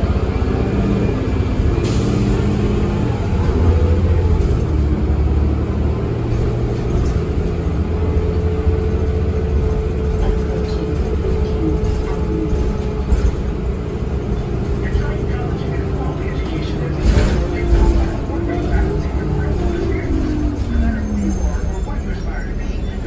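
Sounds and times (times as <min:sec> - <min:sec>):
bus engine rumbling: 0:00.0 - 0:23.0.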